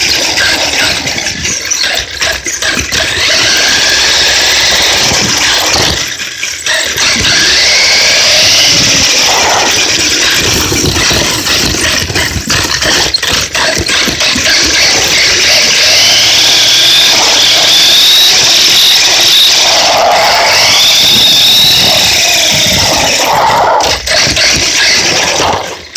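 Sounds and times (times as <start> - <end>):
loud steady noise: 0.0 - 25.8
toy car motor whine: 0.0 - 25.9.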